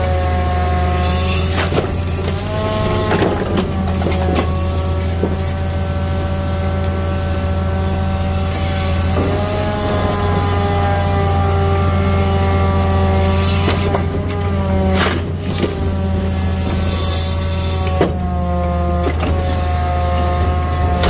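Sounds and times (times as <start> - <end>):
hydraulic crane whine: 0.0 - 21.0
truck engine running: 0.0 - 21.0.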